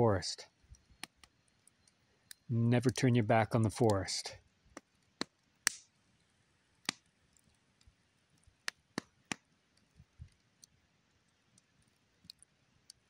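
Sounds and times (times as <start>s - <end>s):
faint fire hiss: 0.0s - 13.0s
campfire snaps and pops: 0.7s - 3.1s, 4.7s - 13.0s.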